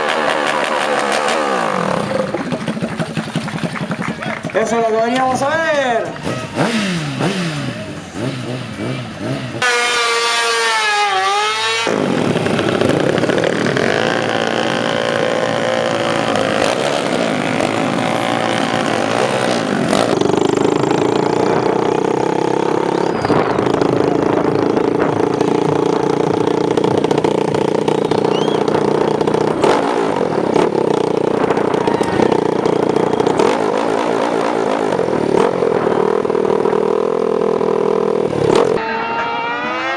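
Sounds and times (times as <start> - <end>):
racing motorcycle engines revving: 0.0 - 39.9.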